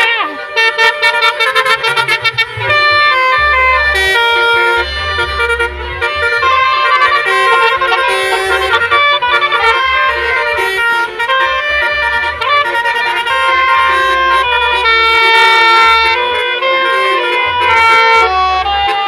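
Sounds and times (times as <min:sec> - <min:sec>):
multi-tone horn playing a melody: 0:00.0 - 0:19.0.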